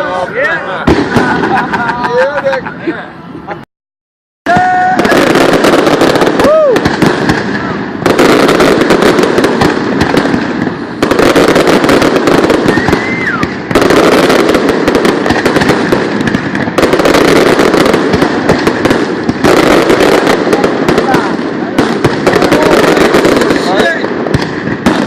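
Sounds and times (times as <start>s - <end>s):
fireworks crackling and banging: 0.0s - 3.0s, 4.5s - 25.0s.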